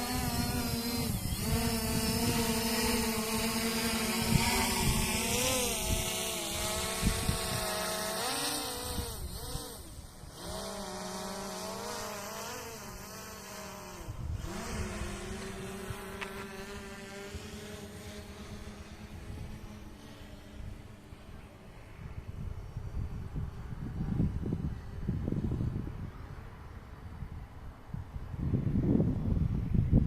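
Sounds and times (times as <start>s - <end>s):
drone propellers buzzing: 0.0s - 26.1s.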